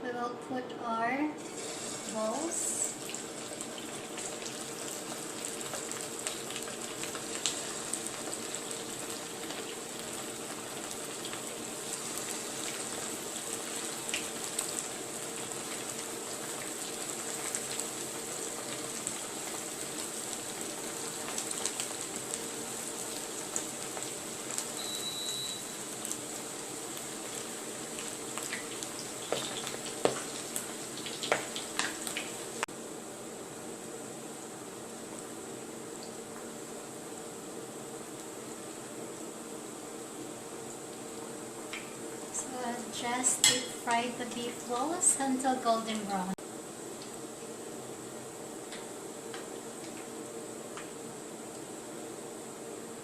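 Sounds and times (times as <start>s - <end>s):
deep-frying sizzle with pops: 1.4s - 53.0s.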